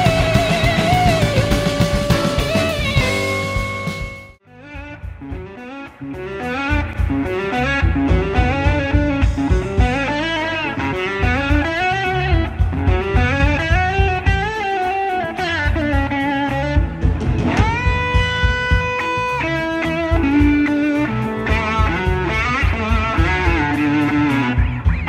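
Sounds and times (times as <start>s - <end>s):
electric slide guitar solo: 0.0s - 25.0s
live band drums: 0.0s - 25.0s.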